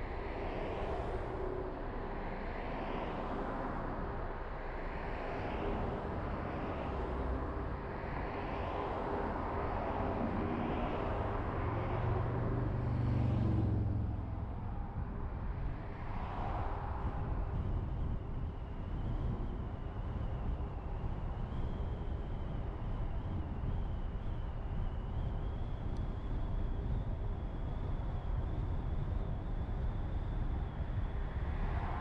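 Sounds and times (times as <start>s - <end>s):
wind rush: 0.0s - 32.0s.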